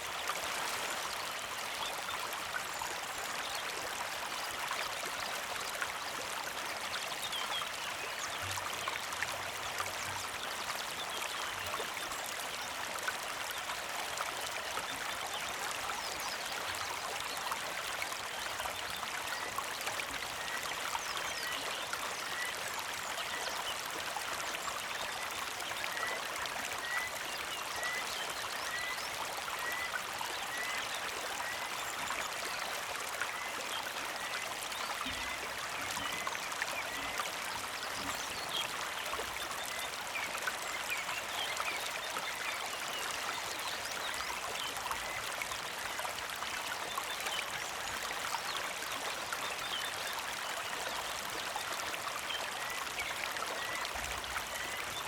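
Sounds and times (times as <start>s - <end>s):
creek water trickling: 0.0s - 55.0s.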